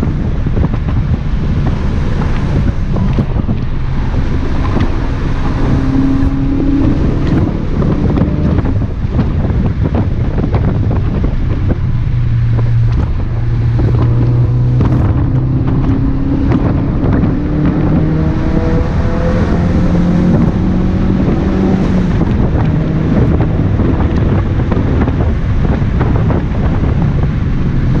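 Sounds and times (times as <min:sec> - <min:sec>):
car engine accelerating through gears: 0:00.0 - 0:28.0
road and wind noise: 0:00.0 - 0:28.0.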